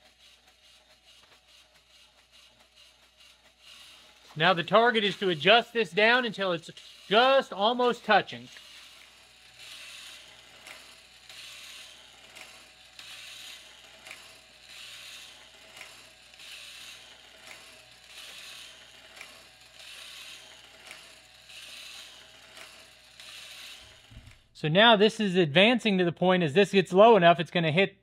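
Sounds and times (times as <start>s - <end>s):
rasping stroke and click: 0.0s - 24.4s.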